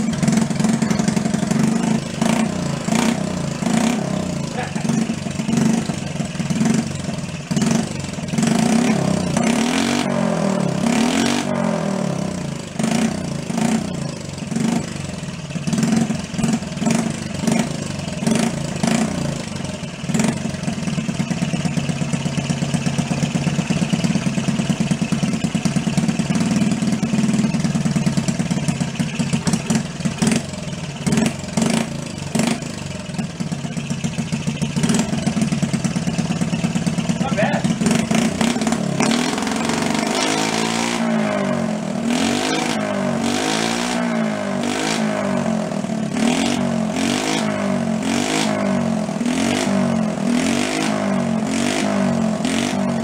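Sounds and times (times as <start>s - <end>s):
small motorcycle engine revving and idling: 0.0s - 53.0s.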